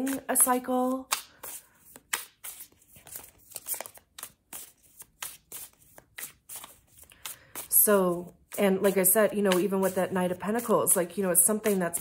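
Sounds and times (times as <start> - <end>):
cards being shuffled: 0.0 - 10.7.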